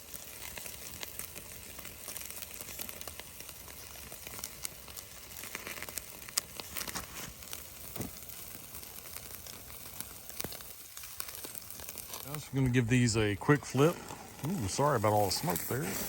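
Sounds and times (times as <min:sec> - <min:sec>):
campfire crackling: 0:00.0 - 0:16.0
steaks sizzling on a grate: 0:00.0 - 0:16.0.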